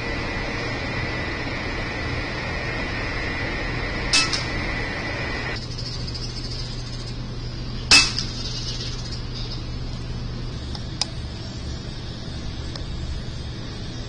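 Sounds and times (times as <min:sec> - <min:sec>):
high whine: 0:00.0 - 0:14.0
low machinery hum: 0:00.0 - 0:14.0.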